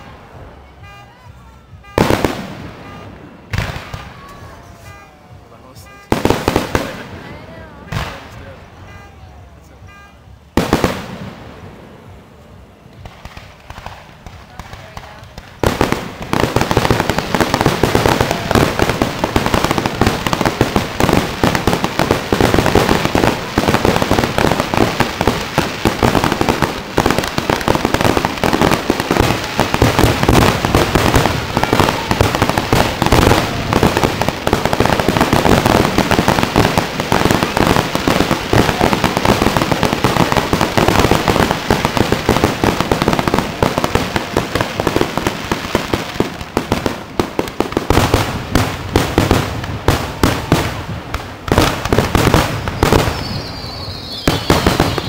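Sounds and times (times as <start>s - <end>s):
fireworks bursts and crackles: 0.0s - 55.0s.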